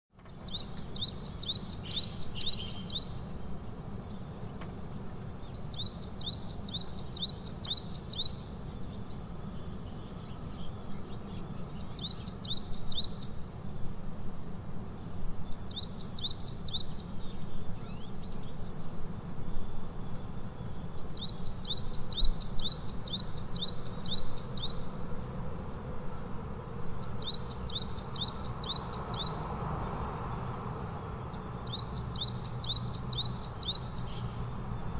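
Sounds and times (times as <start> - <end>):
songbird chirping phrase: 0.2 - 14.1, 14.9 - 34.9.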